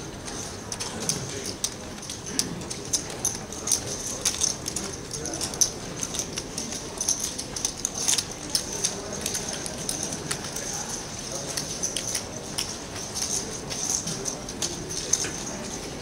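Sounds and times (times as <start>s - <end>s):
background chatter: 0.0s - 16.0s.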